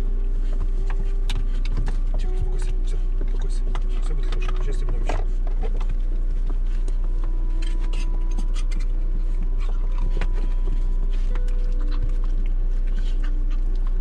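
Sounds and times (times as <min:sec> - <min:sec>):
car interior rumble: 0:00.0 - 0:14.0.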